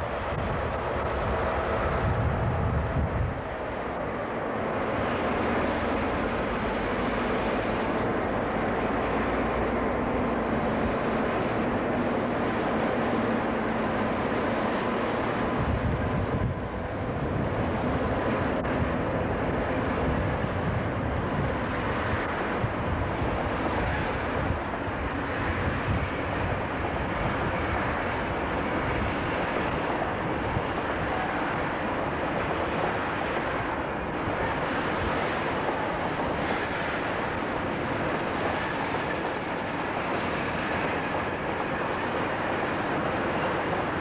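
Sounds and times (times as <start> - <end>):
diesel locomotive engine hum: 0.0 - 44.0
rumbling rushing noise: 0.0 - 44.0
wind buffeting microphone: 0.0 - 44.0.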